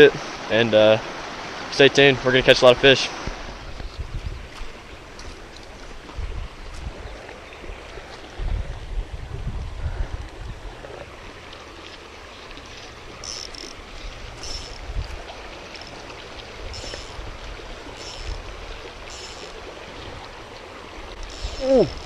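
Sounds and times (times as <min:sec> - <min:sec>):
stream water running: 0:00.0 - 0:22.0.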